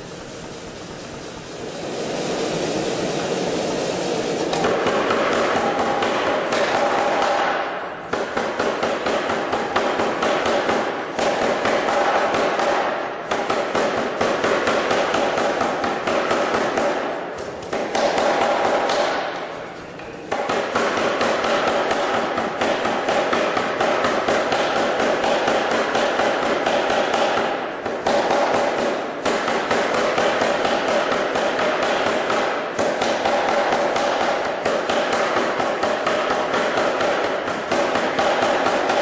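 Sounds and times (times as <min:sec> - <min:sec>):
air hammer striking hot steel: 0:00.0 - 0:19.6, 0:20.3 - 0:39.0.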